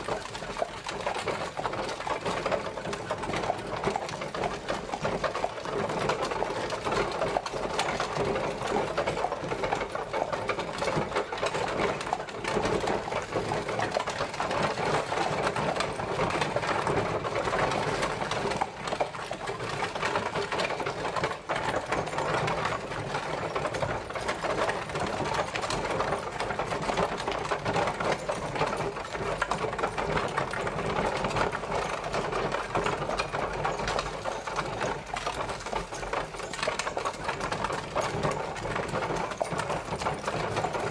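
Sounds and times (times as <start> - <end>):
carriage wheels clattering: 0.0 - 40.9.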